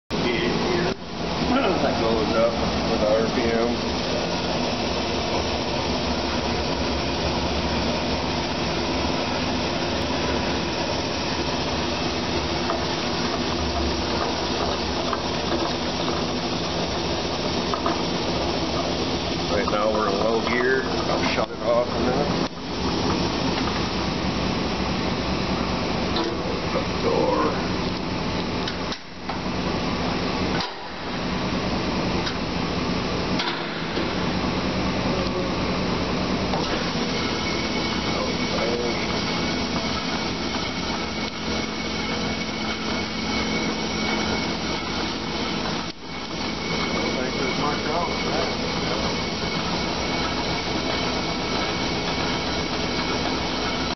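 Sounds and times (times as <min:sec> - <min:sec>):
band saw running: 0:00.1 - 0:53.9.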